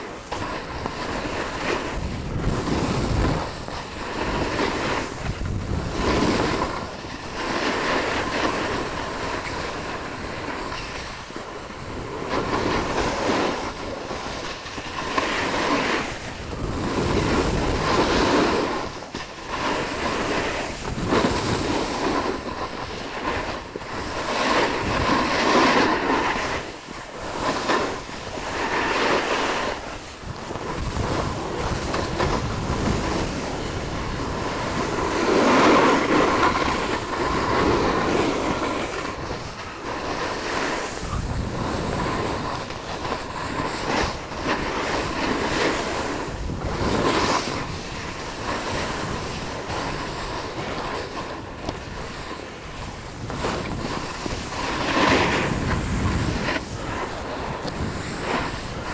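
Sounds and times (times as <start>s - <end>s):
snowboard scraping over snow: 0.0s - 58.9s.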